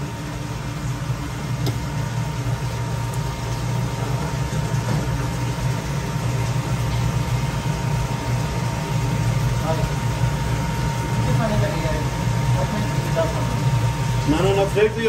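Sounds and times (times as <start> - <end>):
kitchen fan humming: 0.0 - 15.0
thin constant whine: 0.0 - 15.0.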